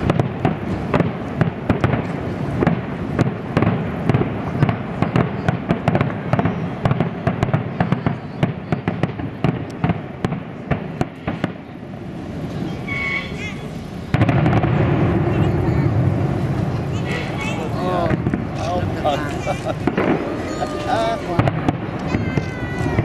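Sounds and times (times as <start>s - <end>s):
firework shells bursting: 0.0s - 13.0s, 13.6s - 17.4s, 18.0s - 23.0s.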